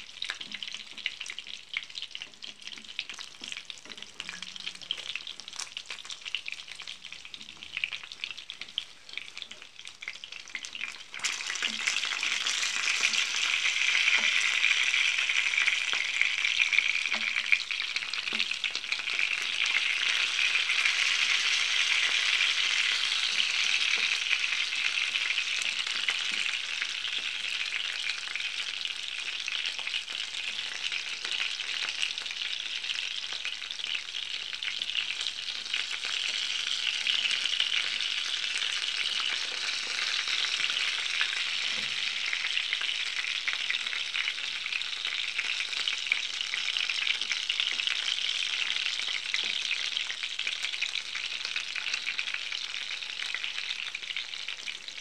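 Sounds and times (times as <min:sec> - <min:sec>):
hot oil sizzling: 0:00.0 - 0:55.0.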